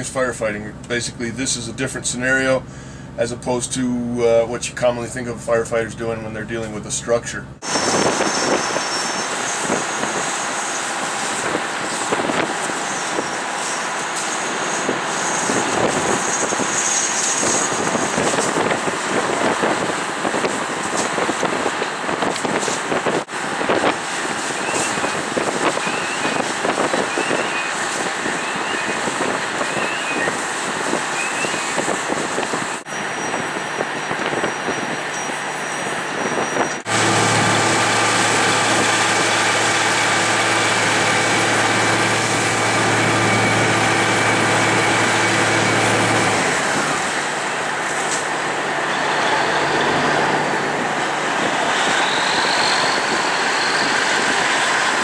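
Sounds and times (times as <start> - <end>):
fire truck engine running: 2.6 - 3.5, 7.4 - 55.0
rushing fire and hose streams: 7.6 - 55.0.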